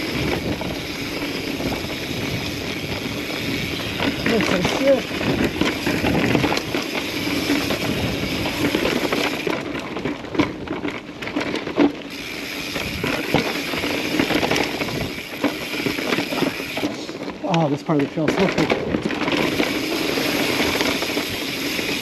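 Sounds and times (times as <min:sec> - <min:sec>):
bike tyres rattling on trail: 0:00.0 - 0:22.0
wheels knocking on rocks: 0:00.0 - 0:22.0.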